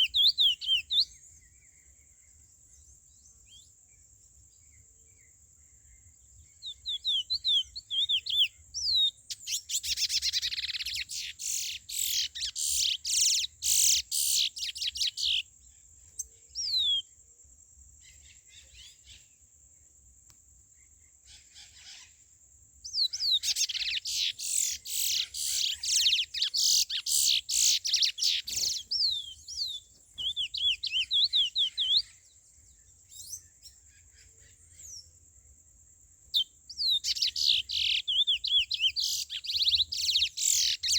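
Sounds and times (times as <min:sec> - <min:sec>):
bird singing whistled notes: 0:00.0 - 0:17.2, 0:22.8 - 0:35.2, 0:36.3 - 0:40.9.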